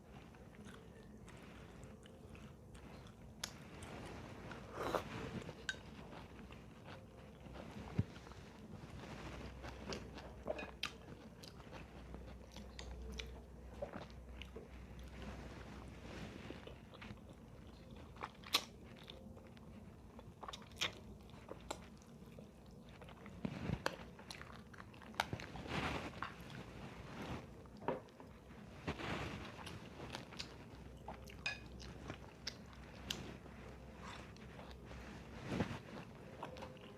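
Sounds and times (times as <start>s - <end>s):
person chewing crunchy food: 0.1s - 36.9s.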